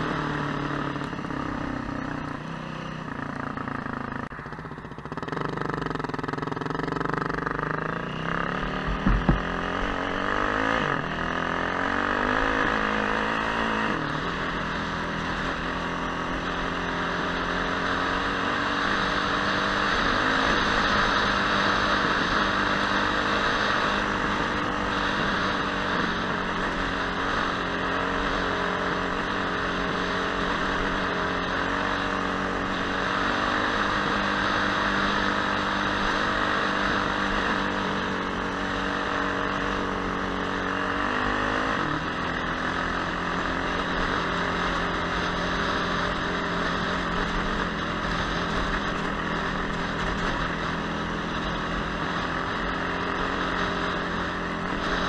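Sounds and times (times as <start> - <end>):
dirt bike engine running: 0.0 - 55.0
steady rushing noise: 0.0 - 55.0.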